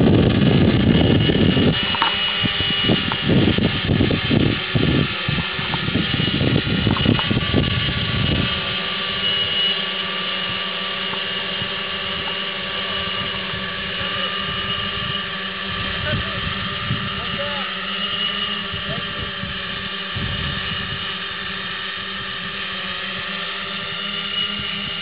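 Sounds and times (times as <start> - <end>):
drone propellers whining: 0.0 - 25.0
heavy low buffeting: 0.0 - 25.0.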